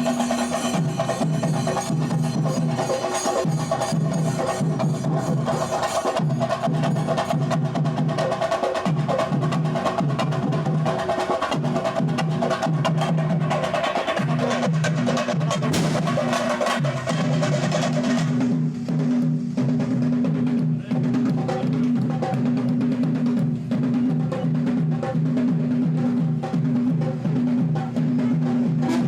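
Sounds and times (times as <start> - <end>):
cymbals: 0.0 - 20.0, 24.0 - 29.0
drums: 0.0 - 29.0.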